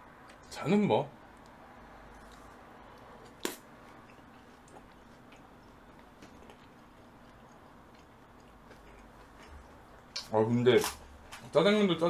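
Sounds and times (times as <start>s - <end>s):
person chewing food: 1.4s - 11.5s.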